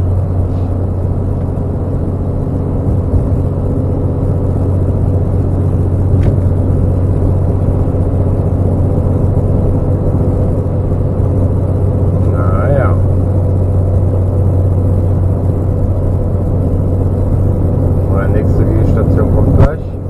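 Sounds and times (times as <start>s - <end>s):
truck engine and tyres droning: 0.0s - 20.0s.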